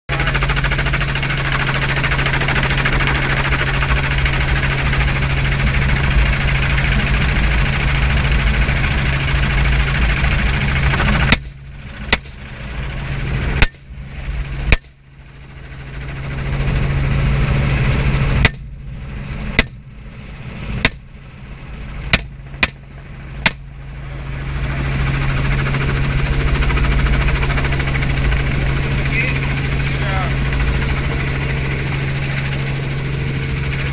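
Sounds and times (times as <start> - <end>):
helicopter engine and rotor: 0.1 - 33.9.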